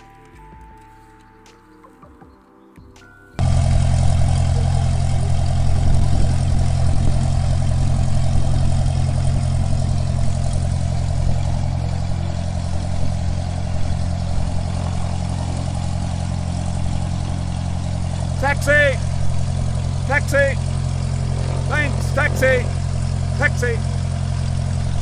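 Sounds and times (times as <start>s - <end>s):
car engine idling: 3.4s - 25.0s.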